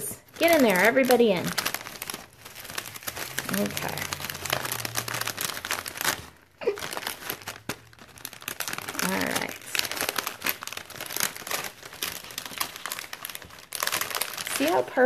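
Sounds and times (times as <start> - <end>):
cellophane bag crinkling: 0.0 - 15.0.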